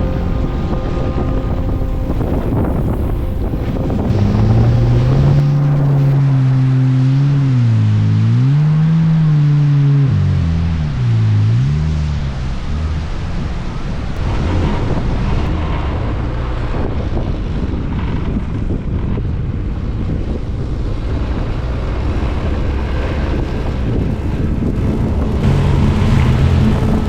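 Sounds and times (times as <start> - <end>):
wind buffeting microphone: 0.0 - 11.0, 12.4 - 27.0
vehicle engine running: 0.0 - 17.4, 18.6 - 27.0.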